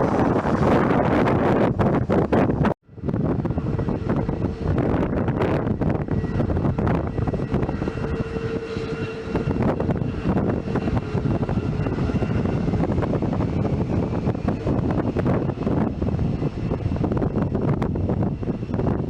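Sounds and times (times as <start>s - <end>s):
aircraft engines roaring: 0.0s - 19.0s
wind buffeting microphone: 0.0s - 19.0s.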